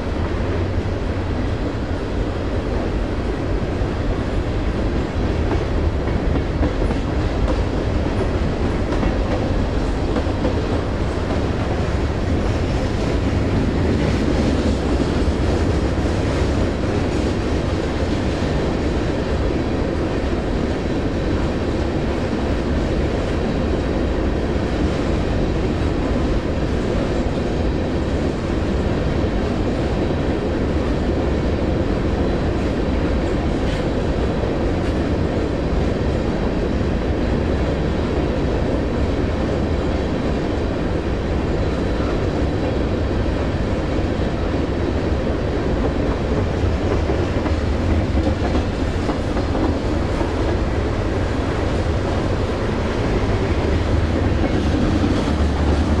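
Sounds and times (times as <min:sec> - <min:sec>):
train passing: 0:00.0 - 0:56.0.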